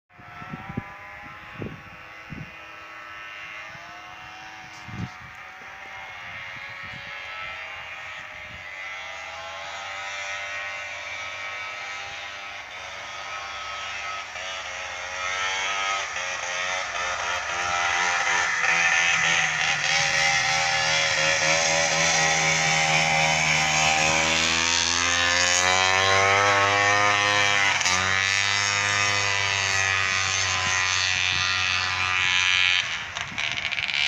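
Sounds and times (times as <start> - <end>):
distant snowmobile engines buzzing: 0.1 - 34.0.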